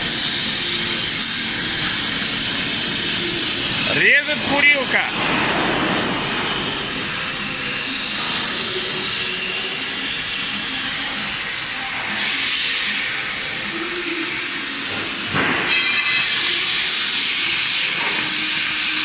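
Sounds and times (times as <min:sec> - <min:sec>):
cutting torch hissing: 0:00.0 - 0:19.0.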